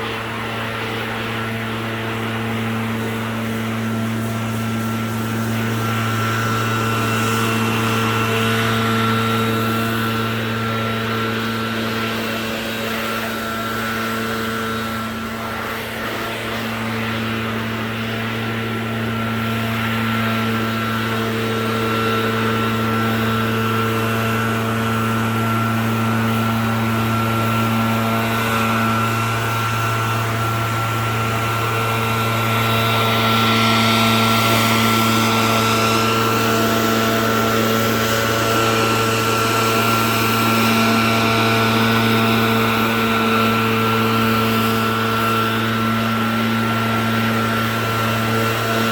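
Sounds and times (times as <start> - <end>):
lawn equipment engine running: 0.0 - 48.9.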